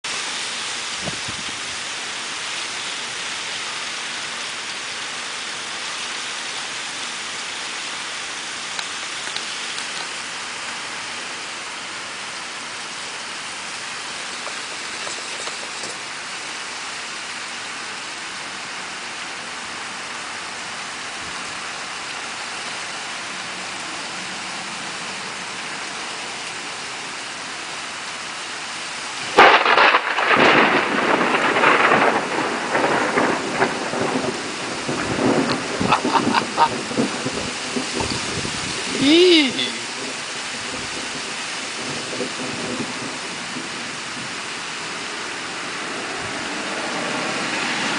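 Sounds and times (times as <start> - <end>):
steady rain hiss: 0.0 - 47.9
rain ticks: 0.2 - 16.8, 20.0 - 47.9.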